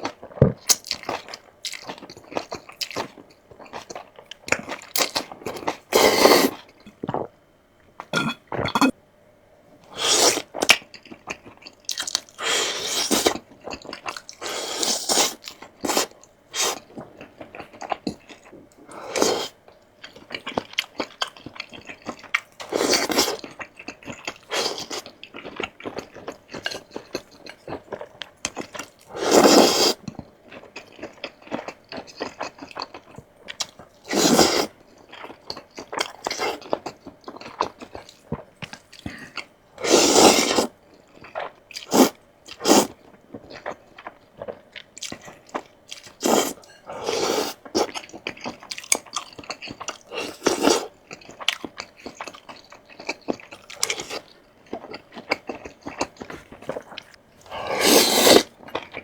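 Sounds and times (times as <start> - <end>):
person crunching food: 0.0 - 7.3, 9.9 - 59.0.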